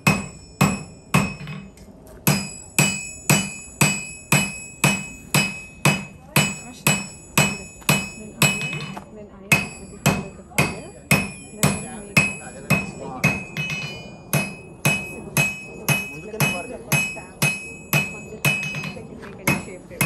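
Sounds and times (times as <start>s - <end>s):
hammer striking iron on anvil: 0.0s - 20.0s.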